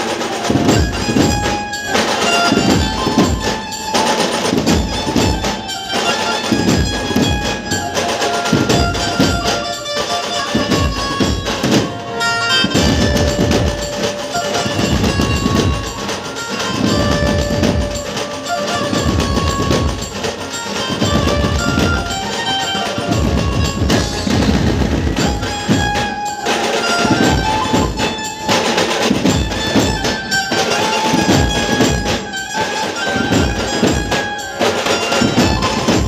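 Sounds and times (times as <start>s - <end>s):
heavy steady drum beats: 0.0s - 36.0s
held melody line: 0.0s - 36.0s.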